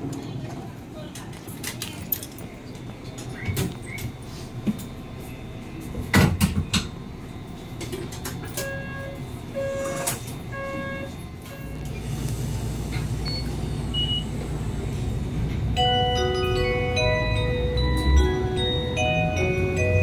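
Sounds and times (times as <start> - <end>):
tram motors and wheels rumbling: 0.0 - 20.0
tram door-warning beeps: 3.1 - 20.0.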